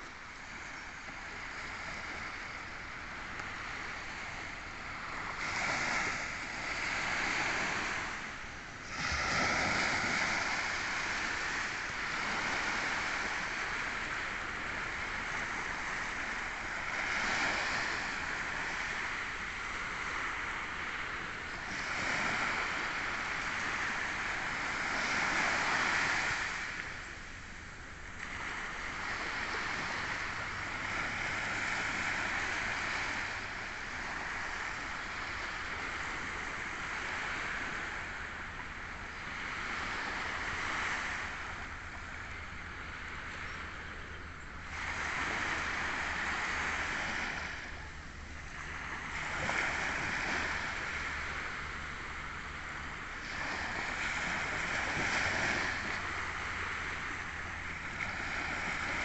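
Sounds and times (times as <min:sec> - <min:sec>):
small waves washing on sand: 0:00.0 - 0:59.0.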